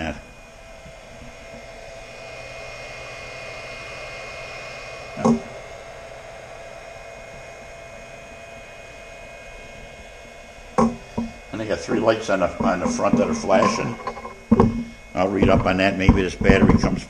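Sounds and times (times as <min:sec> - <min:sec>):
charger cooling fan humming: 0:00.0 - 0:17.0
faint even whine: 0:00.0 - 0:17.0.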